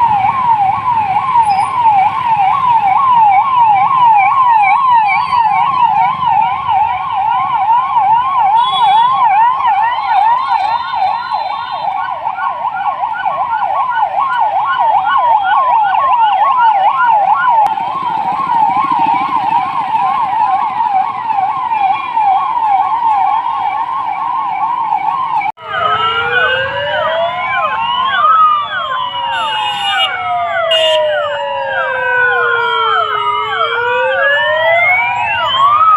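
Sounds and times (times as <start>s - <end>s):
police siren fast yelp: 0.0s - 35.9s
several sirens wailing: 0.0s - 35.9s.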